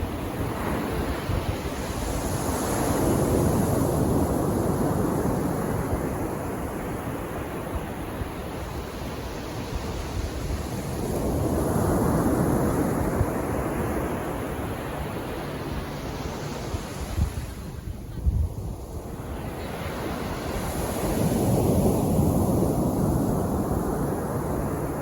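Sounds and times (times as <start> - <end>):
sea waves washing onto beach: 0.0 - 18.0, 18.7 - 25.0.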